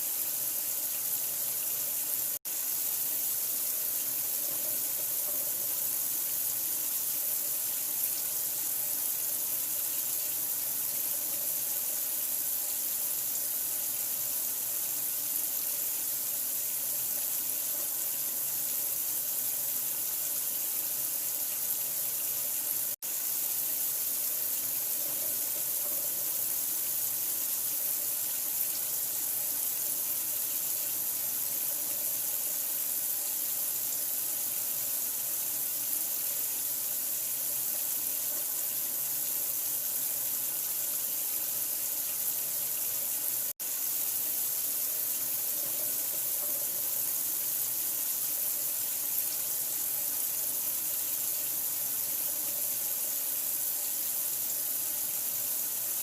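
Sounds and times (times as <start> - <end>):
water running: 0.0 - 56.0.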